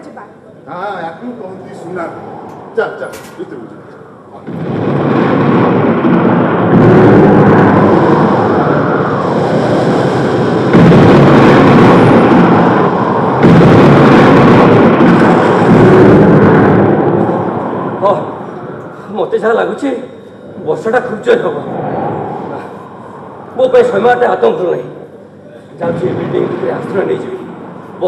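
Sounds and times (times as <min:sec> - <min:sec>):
roar of thunder and wind: 0:01.3 - 0:28.0
thunder crashes: 0:01.4 - 0:28.0.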